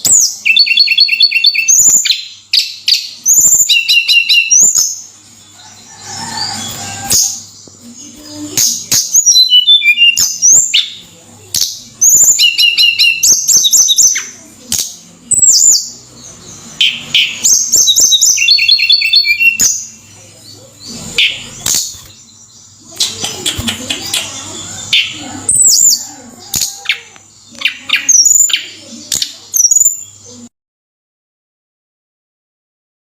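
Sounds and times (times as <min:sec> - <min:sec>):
bird singing: 0:00.0 - 0:30.5.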